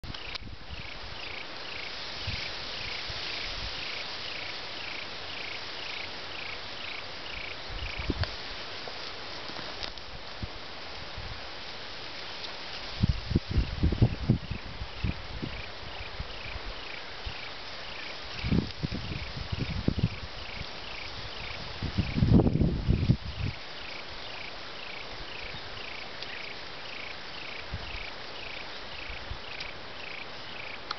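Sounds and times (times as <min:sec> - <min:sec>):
insects hissing: 0:00.1 - 0:30.9.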